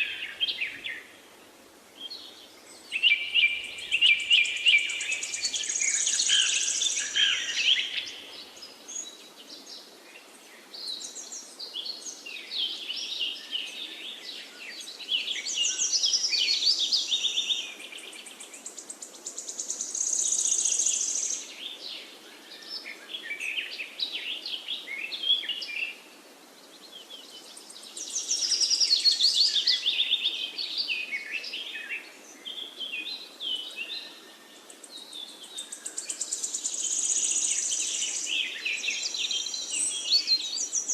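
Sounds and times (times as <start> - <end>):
faint background noise: 0.0 - 40.9
songbirds chirping and trilling: 0.0 - 40.9.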